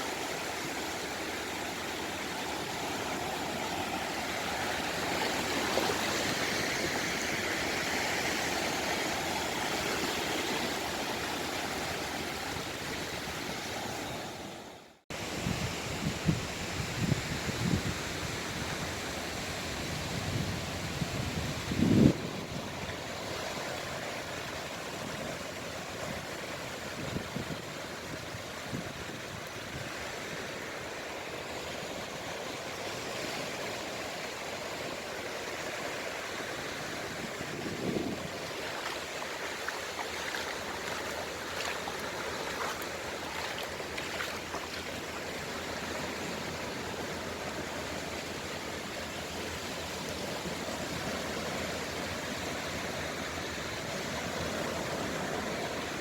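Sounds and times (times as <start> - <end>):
sea waves washing on shore: 0.0 - 56.0.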